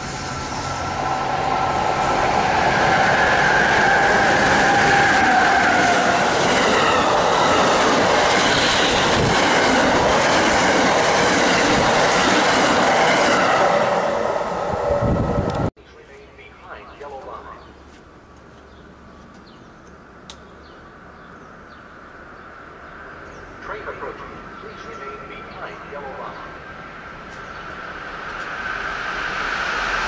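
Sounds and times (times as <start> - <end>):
train passing with rail roar: 0.0 - 30.0.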